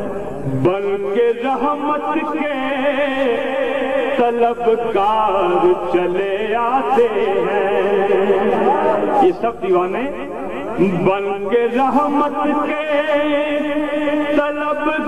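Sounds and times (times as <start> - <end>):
man chanting devotional poem: 0.0 - 15.0.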